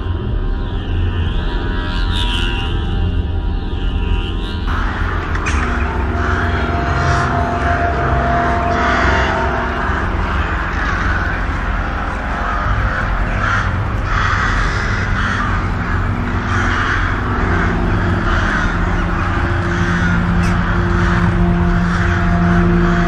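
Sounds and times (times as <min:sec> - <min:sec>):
steady low drone: 0:00.0 - 0:23.0
crows cawing: 0:04.0 - 0:23.0.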